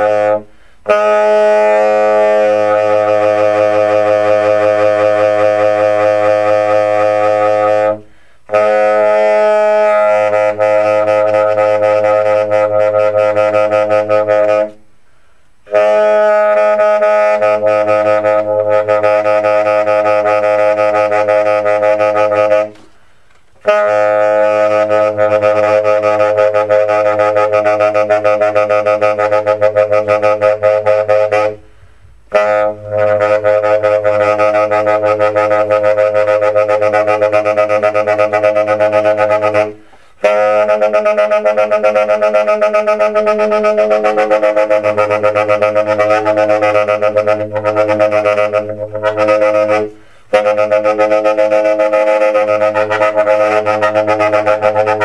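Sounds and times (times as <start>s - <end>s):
tenor saxophone low notes: 0.0s - 55.0s.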